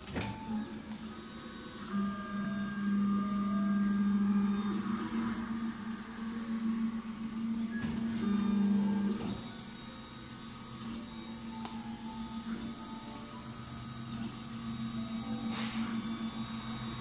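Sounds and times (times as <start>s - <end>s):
stepper motors humming and whining: 0.0s - 17.0s.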